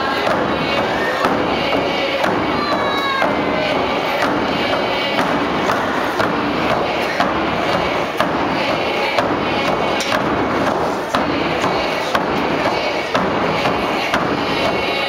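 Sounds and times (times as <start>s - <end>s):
frame drums beating: 0.0s - 15.0s
group singing: 0.0s - 15.0s.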